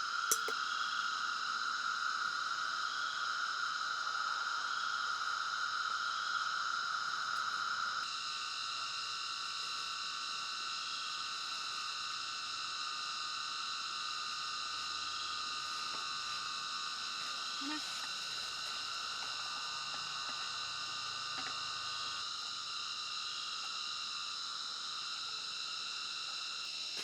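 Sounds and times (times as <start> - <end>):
night insects buzzing: 0.0 - 27.0.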